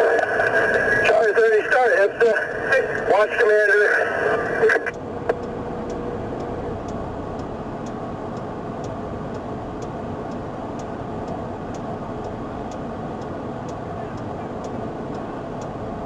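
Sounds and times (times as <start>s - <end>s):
faint regular ticking: 0.0s - 16.0s.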